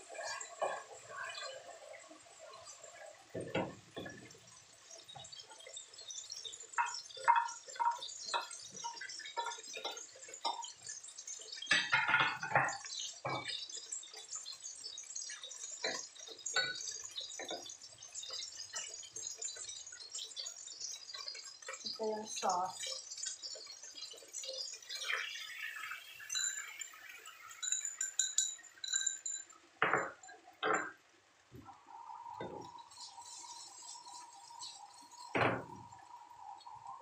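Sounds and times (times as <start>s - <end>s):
oil sizzling in a wok: 0.0s - 37.0s.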